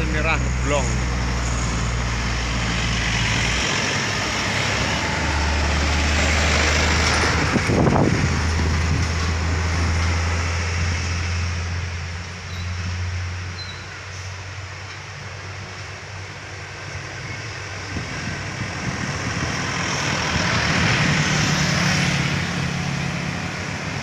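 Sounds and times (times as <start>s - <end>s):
diesel engine drone: 0.0s - 24.0s
tyre and road noise: 0.0s - 24.0s.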